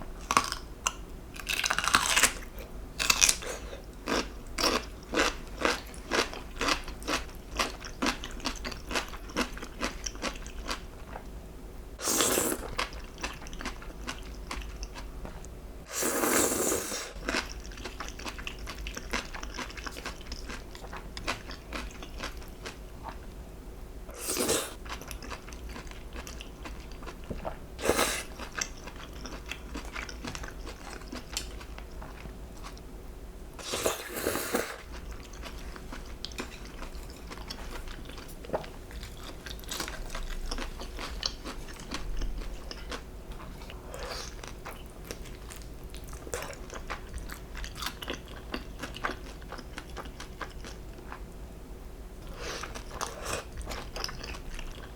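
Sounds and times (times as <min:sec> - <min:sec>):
crunchy chewing: 0:00.2 - 0:11.3, 0:16.1 - 0:23.2, 0:24.1 - 0:32.9, 0:33.6 - 0:51.2, 0:52.2 - 0:54.9.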